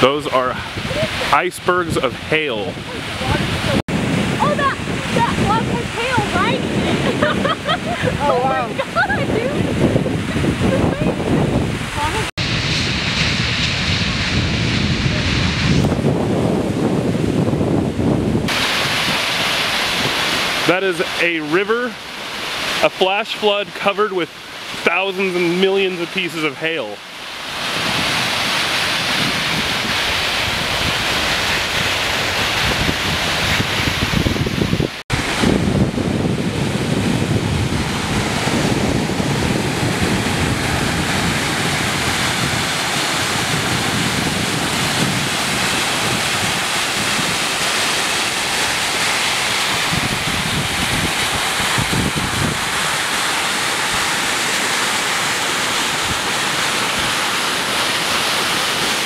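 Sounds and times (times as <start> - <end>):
floodwater roaring: 0.0 - 59.0.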